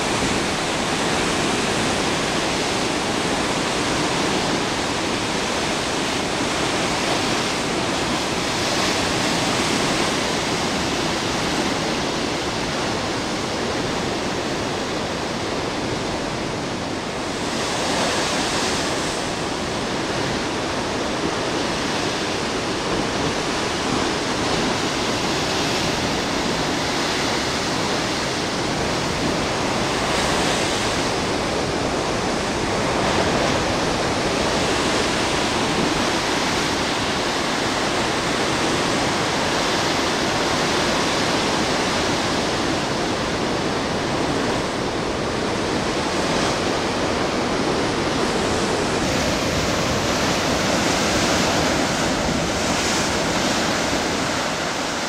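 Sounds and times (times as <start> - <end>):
ocean surf crashing on rocks: 0.0 - 55.0.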